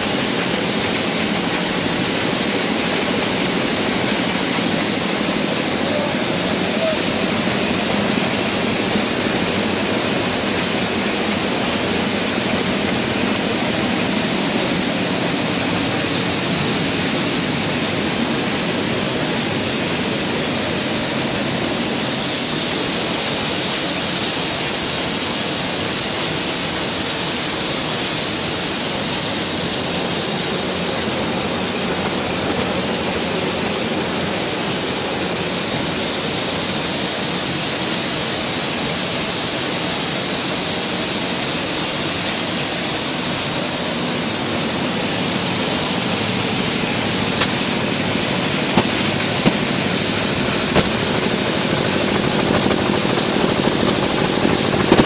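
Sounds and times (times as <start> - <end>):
maize sheller running: 0.0 - 55.0.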